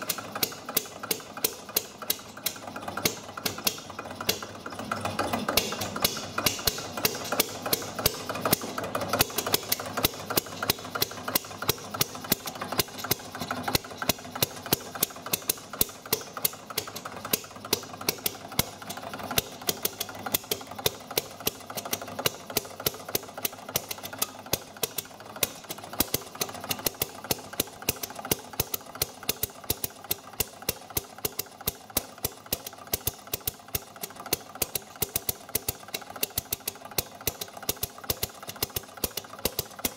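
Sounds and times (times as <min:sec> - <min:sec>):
fast mechanical clatter: 0:00.0 - 0:39.9
small engine popping: 0:00.0 - 0:39.9.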